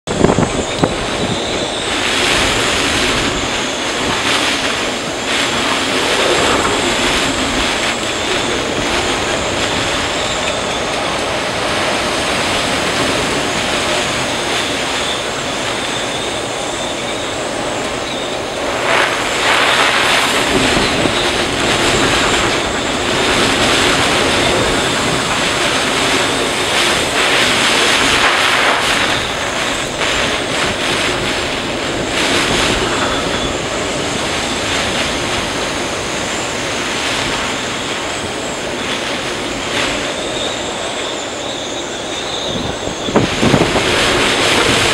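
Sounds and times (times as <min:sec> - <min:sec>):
driving rain: 0:00.0 - 0:44.9
storm wind gusting: 0:00.0 - 0:44.9.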